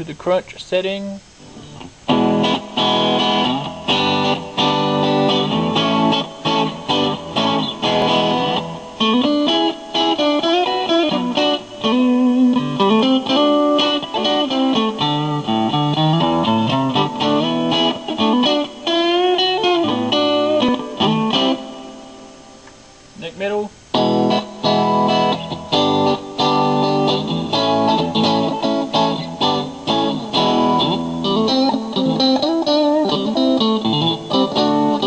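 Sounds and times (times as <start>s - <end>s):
electric guitar lead lines: 0.0s - 35.0s
electric guitar strummed chords: 1.3s - 35.0s.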